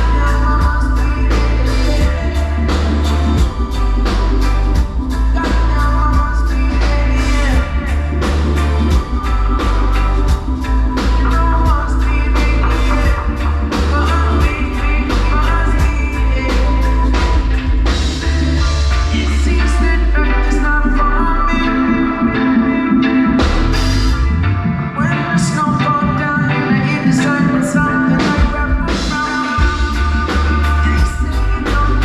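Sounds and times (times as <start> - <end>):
drum kit: 0.0 - 20.8, 22.1 - 32.0
guitar: 0.0 - 32.0
heavy bass line: 0.0 - 32.0
person singing: 0.0 - 32.0.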